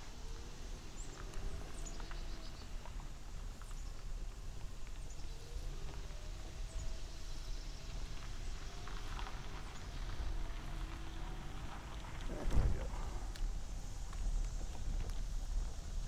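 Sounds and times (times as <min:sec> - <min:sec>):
trike road noise: 0:00.0 - 0:16.0
wind rumble on microphone: 0:01.4 - 0:16.0.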